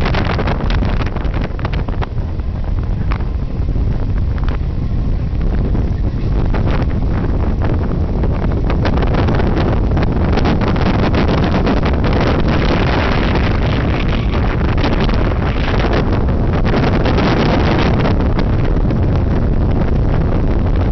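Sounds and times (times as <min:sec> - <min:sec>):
train low rumble: 0:00.0 - 0:20.9
wind buffeting microphone: 0:00.0 - 0:20.9.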